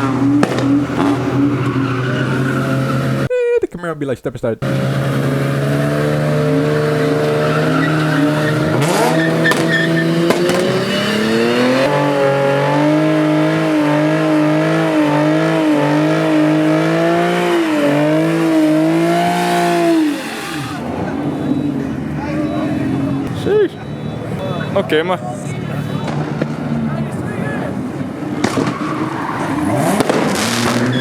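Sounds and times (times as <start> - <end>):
car engine at high revs: 0.0 - 3.3, 4.6 - 23.6, 26.0 - 31.0
tyres squealing: 0.0 - 3.9, 4.6 - 26.2, 28.3 - 31.0.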